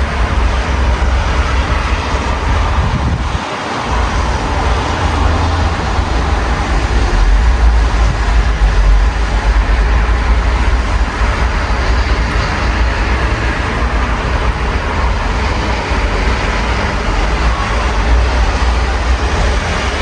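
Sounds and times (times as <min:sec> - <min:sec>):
city traffic rumble: 0:00.0 - 0:20.0
steady rain: 0:00.0 - 0:20.0.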